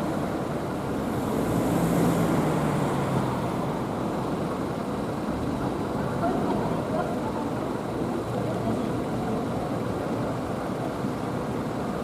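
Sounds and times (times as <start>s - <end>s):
vehicles passing on a street: 0.0s - 12.0s.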